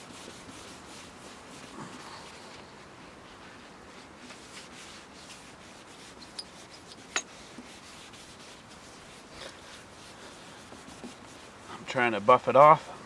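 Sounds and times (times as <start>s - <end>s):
paper towel wiping plastic: 0.0s - 13.0s.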